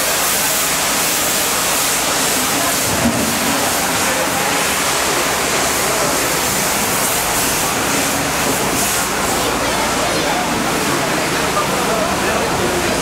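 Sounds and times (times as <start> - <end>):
pressure washer spraying: 0.0 - 13.0.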